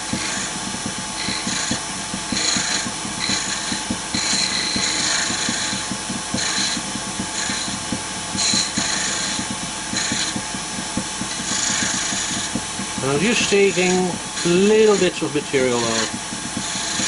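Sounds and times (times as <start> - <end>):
turning tool cutting wood: 0.0 - 17.0
wood lathe humming: 0.0 - 17.0.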